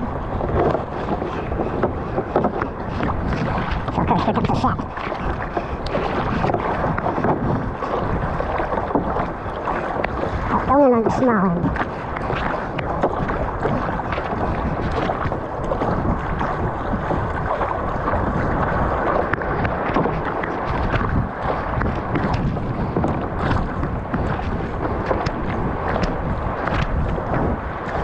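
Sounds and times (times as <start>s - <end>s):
rushing sea water: 0.0s - 28.0s
wind buffeting microphone: 0.0s - 28.0s
sharp knocks or splashes: 0.4s - 28.0s.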